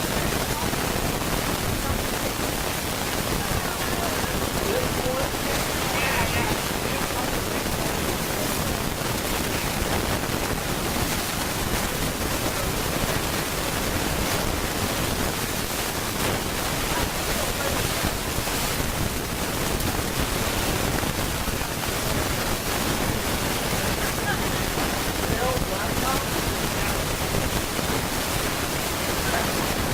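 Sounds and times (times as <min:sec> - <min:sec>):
loud steady recording hiss: 0:00.0 - 0:29.9.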